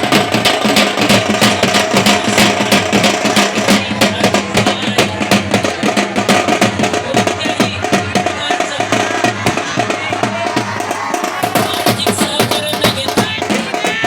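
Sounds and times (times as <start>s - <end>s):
loud music with fast drums: 0.0s - 14.0s.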